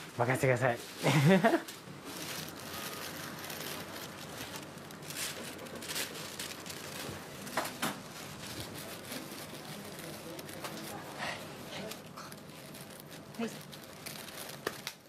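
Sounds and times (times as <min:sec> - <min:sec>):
wrapping paper rustling: 0:00.2 - 0:15.0.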